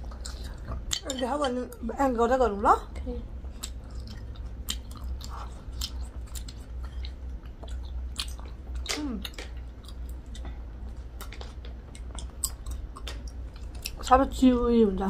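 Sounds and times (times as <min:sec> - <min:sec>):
chewing rice cakes: 0:00.0 - 0:01.9, 0:03.4 - 0:14.2.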